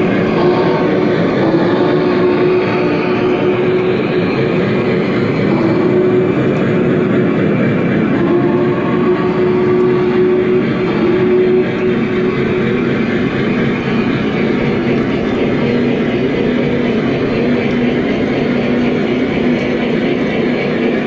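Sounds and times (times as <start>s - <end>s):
model train wheels rumbling: 0.0s - 21.0s.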